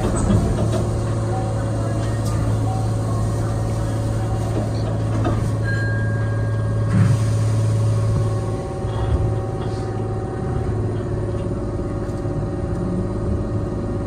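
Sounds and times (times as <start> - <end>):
electric train humming: 0.0 - 14.0.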